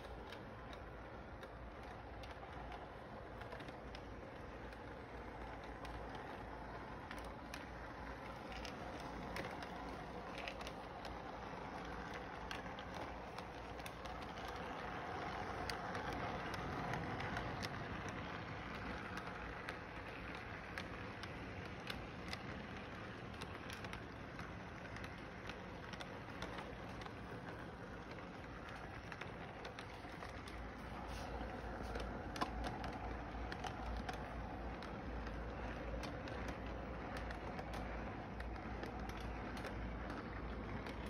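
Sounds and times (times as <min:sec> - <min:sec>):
model train rolling rumble: 0:00.0 - 0:41.0
small track clicks: 0:00.0 - 0:41.0.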